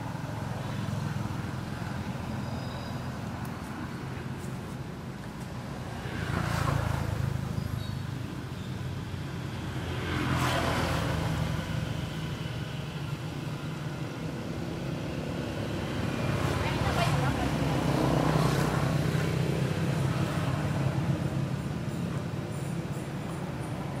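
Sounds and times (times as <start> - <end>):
traffic engine hum: 0.0 - 24.0
vehicles passing: 0.0 - 24.0.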